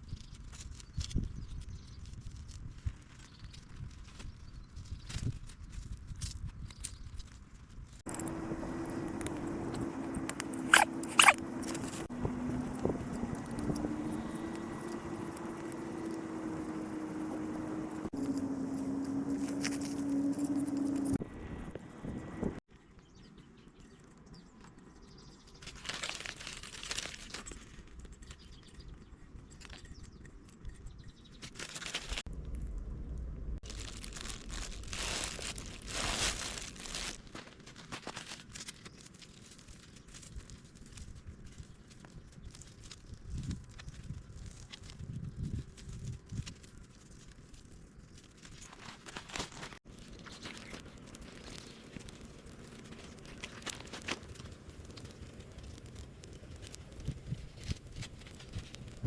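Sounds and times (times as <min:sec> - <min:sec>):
crinkling and rustling handling: 0:00.0 - 0:22.6, 0:25.4 - 0:32.7, 0:33.6 - 0:59.0.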